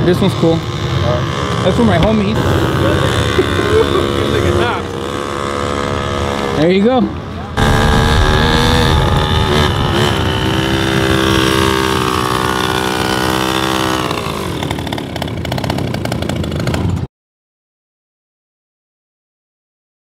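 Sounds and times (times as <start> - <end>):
vehicle engine revving high: 0.0 - 16.9.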